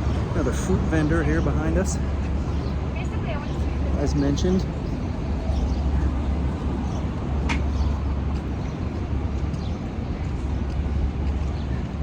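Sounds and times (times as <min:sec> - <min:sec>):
steady low street rumble: 0:00.0 - 0:12.0.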